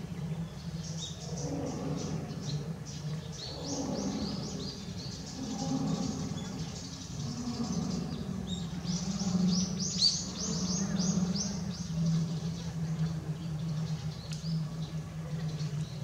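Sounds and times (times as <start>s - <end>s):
bird singing: 0.0s - 16.0s
low hum: 0.0s - 16.0s.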